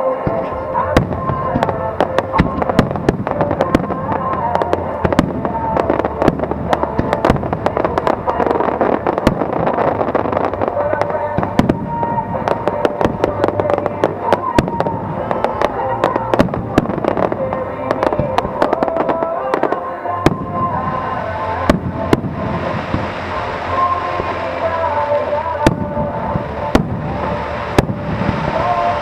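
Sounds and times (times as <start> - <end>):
fireworks bangs and crackles: 0.0 - 29.0
music: 0.0 - 29.0.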